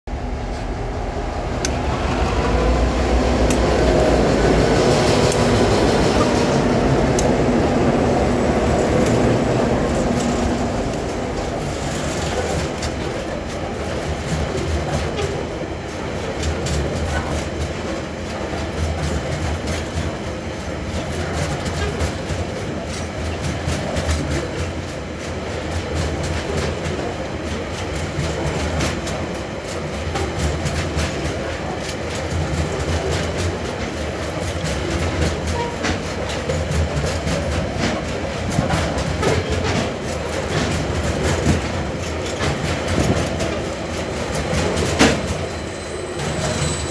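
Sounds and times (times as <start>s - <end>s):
low train rumble: 0.1s - 46.9s
train wheels clicking over rail joints: 1.5s - 46.9s.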